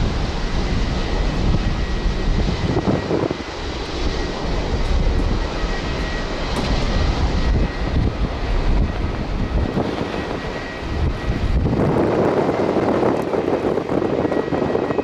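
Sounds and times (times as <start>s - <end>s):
faint high engine whine: 0.0s - 15.0s
jet engines deep rumble: 0.0s - 15.0s.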